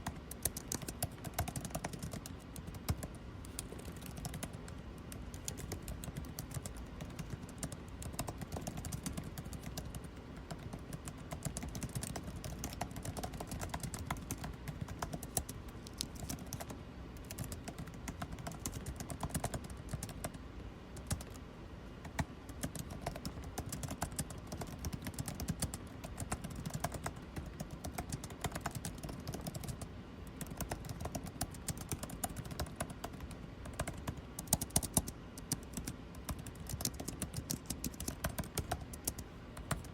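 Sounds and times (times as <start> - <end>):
keyboard typing: 0.0 - 21.4, 22.0 - 39.9
air conditioning hum: 0.0 - 39.9.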